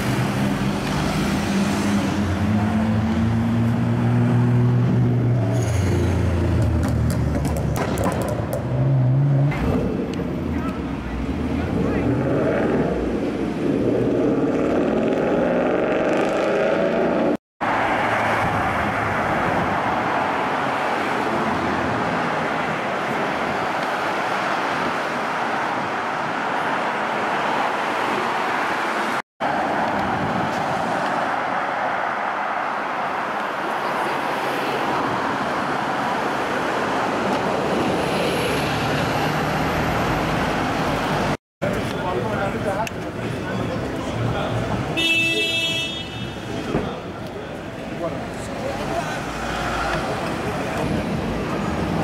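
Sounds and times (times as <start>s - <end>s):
city road traffic: 0.0s - 52.0s.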